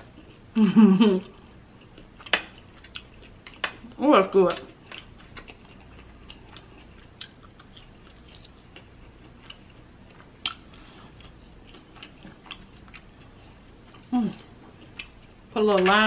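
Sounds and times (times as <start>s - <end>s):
person chewing crunchy food: 0.0s - 0.5s, 1.2s - 15.9s.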